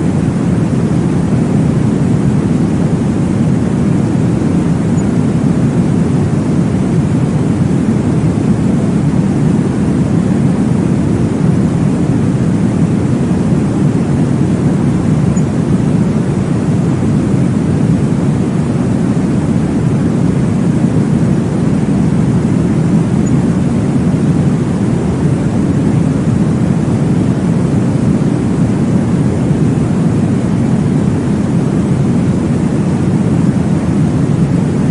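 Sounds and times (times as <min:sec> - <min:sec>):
low rushing white noise: 0:00.0 - 0:34.9.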